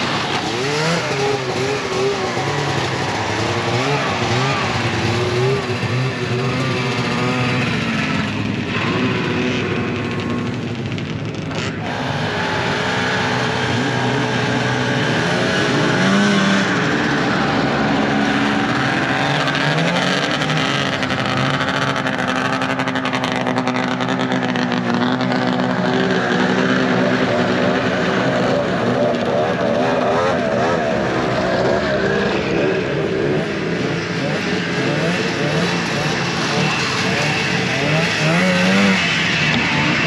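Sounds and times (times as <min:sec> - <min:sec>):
snowmobile engines revving: 0:00.0 - 0:40.0.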